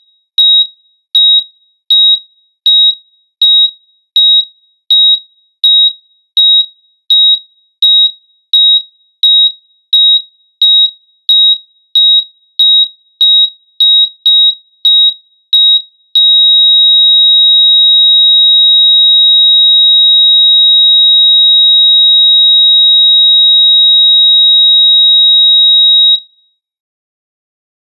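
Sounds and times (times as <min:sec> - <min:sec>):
heart monitor beeps: 0:00.0 - 0:21.0, 0:22.0 - 0:26.3
heart monitor flatline tone: 0:00.0 - 0:26.3.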